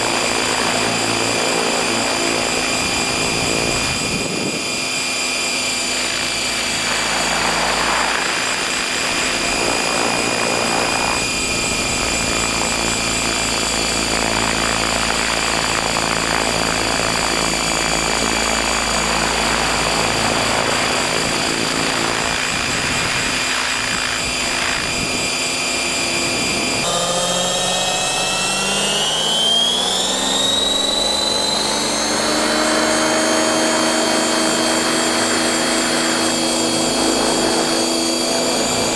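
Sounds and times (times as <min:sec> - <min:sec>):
rc helicopter motor and rotors: 0:00.0 - 0:38.9.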